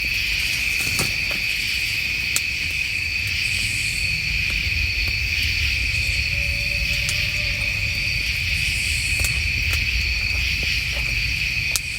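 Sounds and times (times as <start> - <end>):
crickets trilling: 0.0 - 11.9
low background rumble: 2.2 - 11.9.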